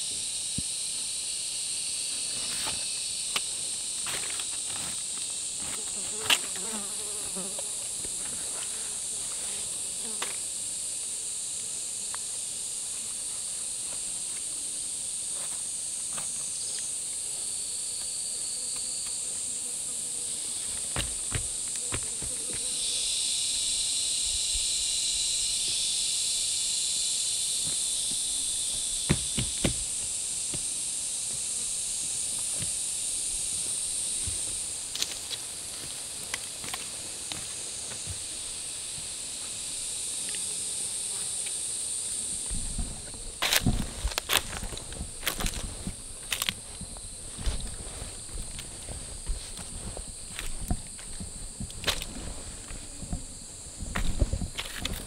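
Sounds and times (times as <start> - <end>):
high-pitched insect chorus: 0.0 - 55.0
low insect buzz: 0.0 - 55.0.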